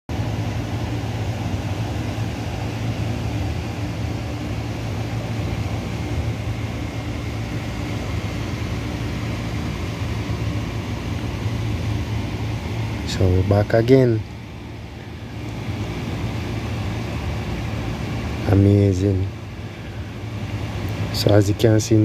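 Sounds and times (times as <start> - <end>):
low mechanical hum: 0.1 - 22.0.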